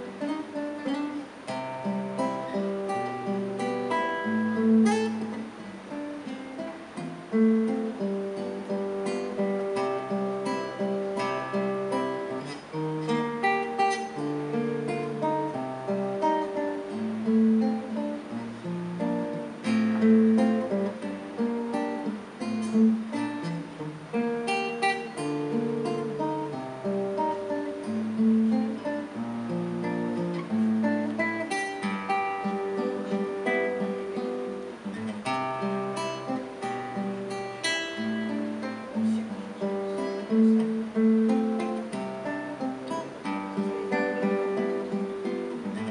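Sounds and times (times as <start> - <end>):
classical guitar fingerstyle: 0.0 - 45.9.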